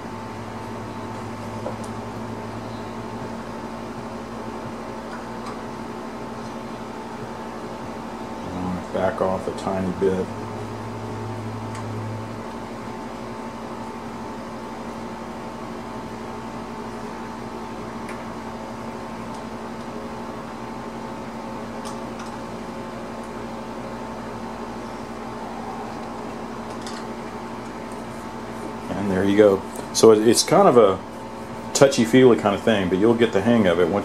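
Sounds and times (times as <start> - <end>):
steady electric hum: 0.0 - 34.0.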